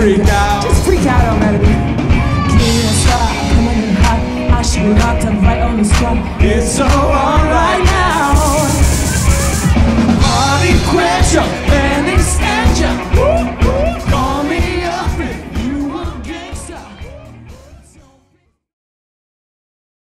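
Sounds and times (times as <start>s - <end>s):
pop-rock band playing: 0.0s - 18.2s.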